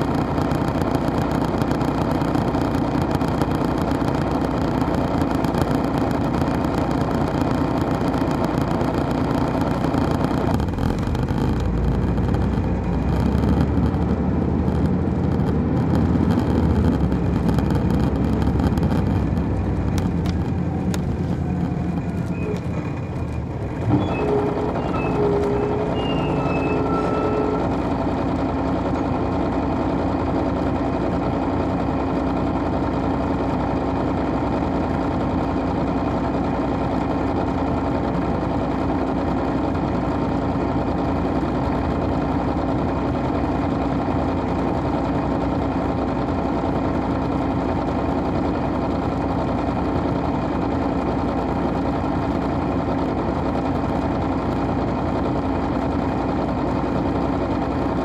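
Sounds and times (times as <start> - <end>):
diesel bus engine drone: 0.0 - 58.0.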